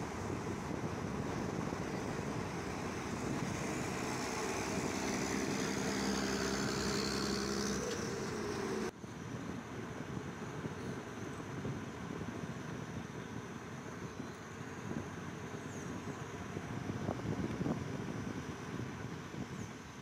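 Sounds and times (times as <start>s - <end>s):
passing vehicles and road noise: 0.0s - 20.0s
steady engine hum: 0.0s - 20.0s.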